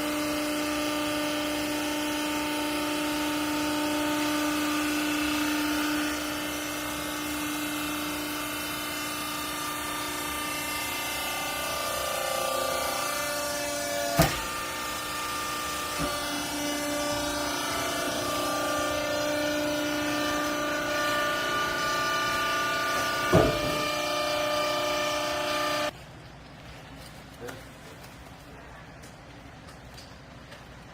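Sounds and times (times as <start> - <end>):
hydraulic motor whining: 0.0 - 25.9.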